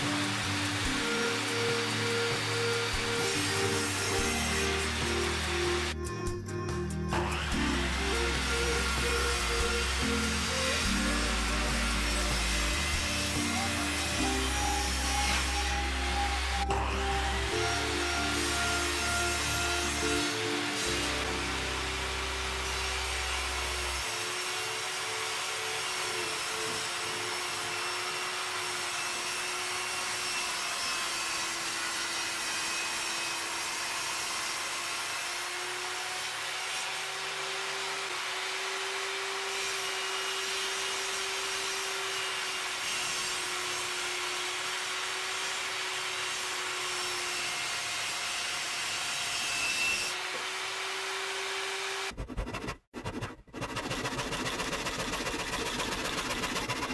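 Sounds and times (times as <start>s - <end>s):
table saw ripping wood: 0.0s - 6.1s, 7.1s - 56.9s.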